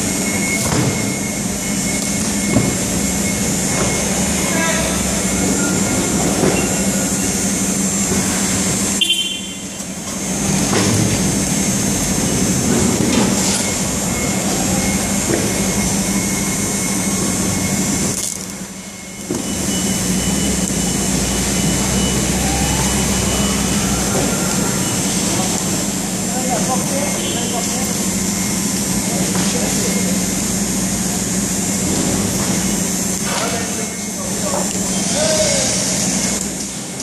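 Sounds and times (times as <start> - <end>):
conveyor machinery hum and rumble: 0.0 - 37.0.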